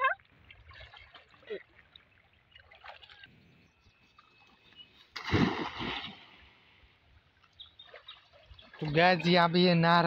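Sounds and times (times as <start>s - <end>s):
faint water sounds: 0.0s - 10.0s.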